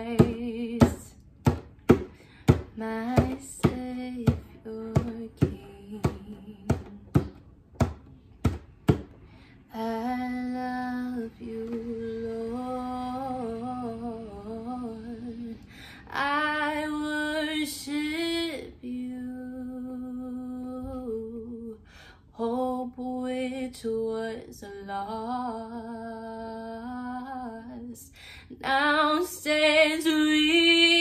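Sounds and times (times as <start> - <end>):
woman singing long held notes: 2.4 - 7.4, 9.6 - 31.0.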